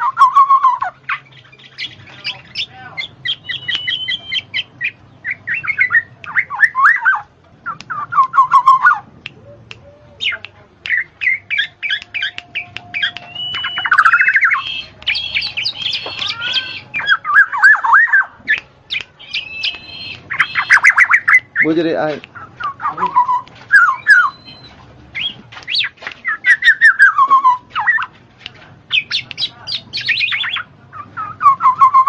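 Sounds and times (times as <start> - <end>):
birds squawking: 0.0 - 28.2, 28.9 - 32.0
birds warbling: 0.0 - 28.2, 28.9 - 32.0
birds chirping: 0.0 - 32.0.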